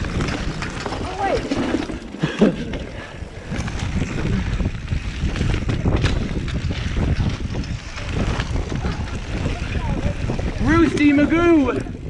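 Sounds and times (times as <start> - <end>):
mountain bike rattling and knocking: 0.0 - 12.0
wind buffeting microphone: 0.0 - 12.0.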